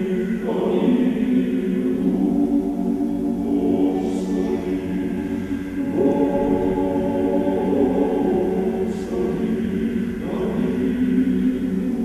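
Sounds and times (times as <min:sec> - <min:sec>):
male choir singing a cappella: 0:00.0 - 0:12.0.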